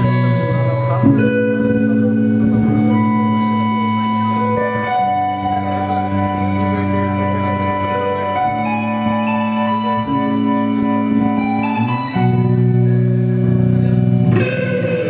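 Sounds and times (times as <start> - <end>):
rock band playing held chords: 0.0 - 15.0.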